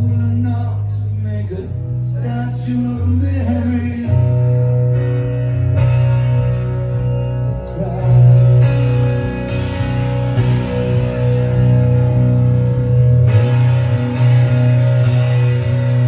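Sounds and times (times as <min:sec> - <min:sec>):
electric bass notes: 0:00.0 - 0:16.0.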